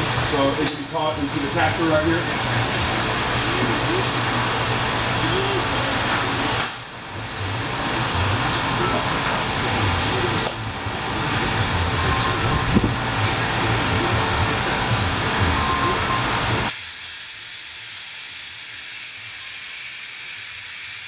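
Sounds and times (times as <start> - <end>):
air-powered oil extractor hissing: 0.0 - 21.0.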